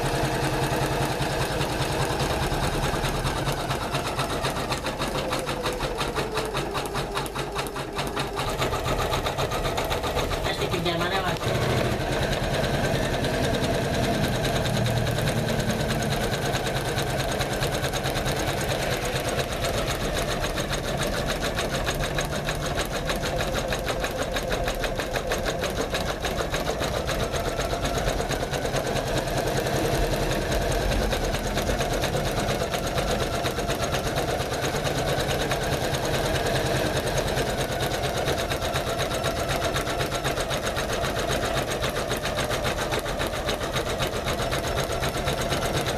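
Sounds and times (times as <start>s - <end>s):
embroidery machine stitching: 0.0s - 45.9s.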